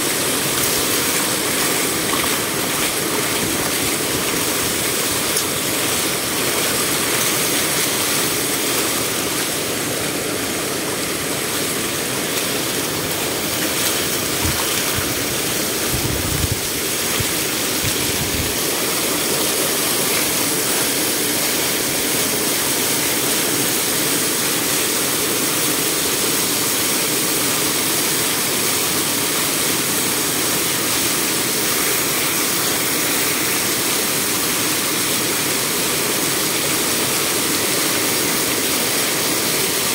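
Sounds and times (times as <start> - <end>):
water pouring over stone: 0.0 - 39.9.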